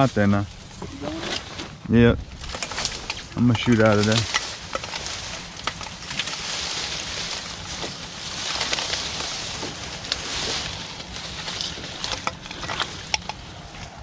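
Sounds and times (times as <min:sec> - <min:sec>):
reeds brushing against boat: 0:00.0 - 0:14.0.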